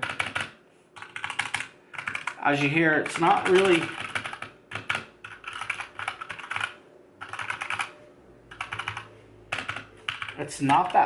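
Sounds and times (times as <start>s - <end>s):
mechanical keyboard typing: 0.0s - 7.9s, 8.5s - 11.0s.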